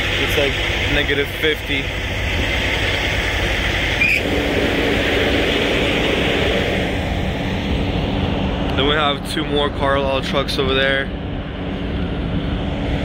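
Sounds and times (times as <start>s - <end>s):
diesel truck engine idling: 0.0s - 13.0s
low steady hum: 0.0s - 13.0s
fan whoosh: 1.7s - 13.0s.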